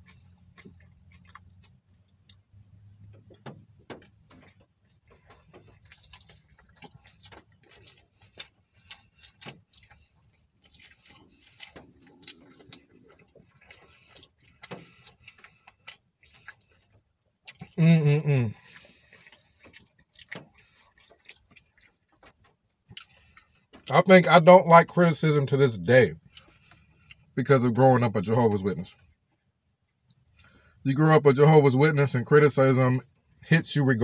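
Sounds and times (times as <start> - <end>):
chewing with lip smacks: 0.0 - 24.0, 25.8 - 27.4, 28.8 - 30.8.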